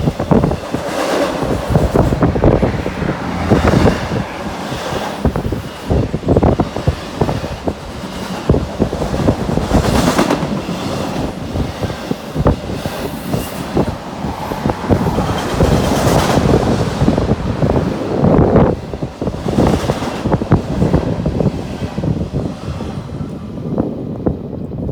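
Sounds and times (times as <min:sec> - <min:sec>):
freight train wheels clattering: 0:00.0 - 0:24.8.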